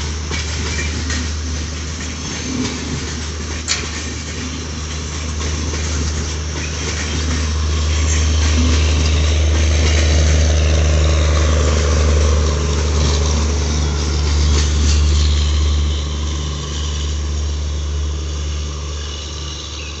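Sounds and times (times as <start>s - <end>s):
train coaches rumbling past: 0.0s - 20.0s.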